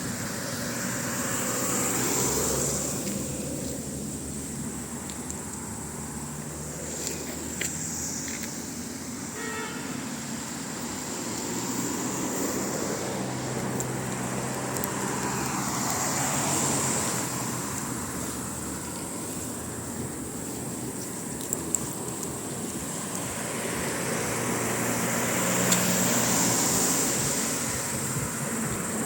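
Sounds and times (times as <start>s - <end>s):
car passing by: 0.0s - 29.0s.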